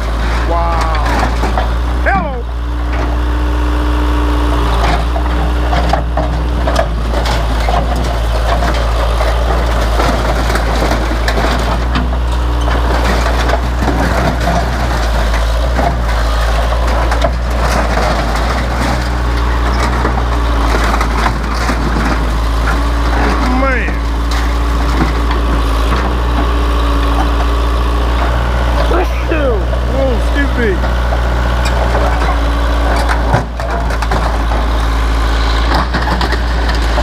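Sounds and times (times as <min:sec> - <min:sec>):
backhoe engine running: 0:00.0 - 0:37.0
wreckage crunching and cracking: 0:04.8 - 0:37.0.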